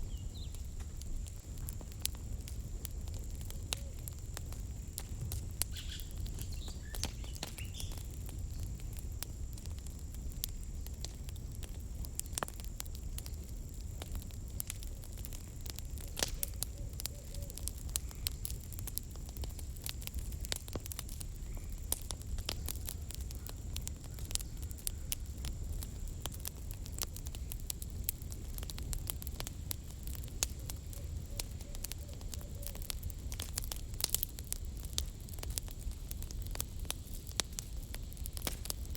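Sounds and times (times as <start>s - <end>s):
campfire crackling and popping: 0.0s - 38.9s
low rumble of fire: 0.0s - 38.9s.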